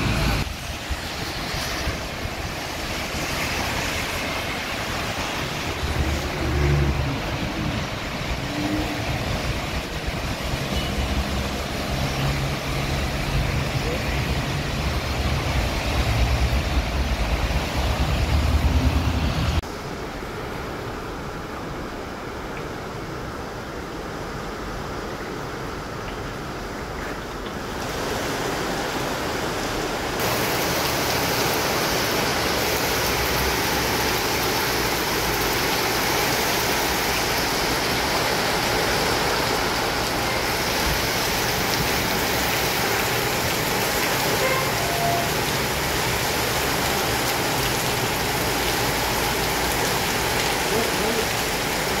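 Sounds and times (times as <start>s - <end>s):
heavy rain on pavement and cars: 0.0s - 52.0s.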